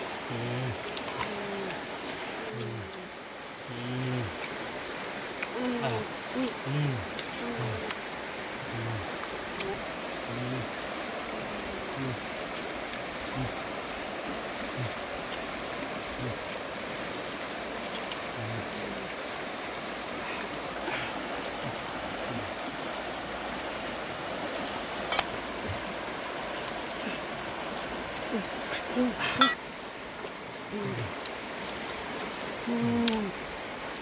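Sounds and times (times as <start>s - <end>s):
river water rushing over rocks: 0.0s - 34.0s.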